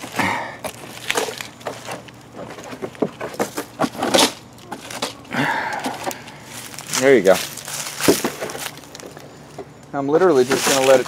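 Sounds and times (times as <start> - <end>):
dry leaves and peels rustling: 0.0 - 11.0.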